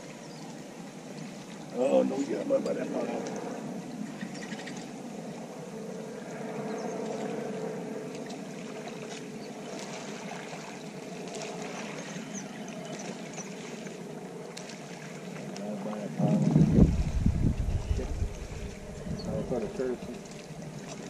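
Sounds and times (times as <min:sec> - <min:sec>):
distant motorboat engine hum: 0:00.0 - 0:21.0
light wind: 0:00.0 - 0:21.0
water noise: 0:00.0 - 0:21.0.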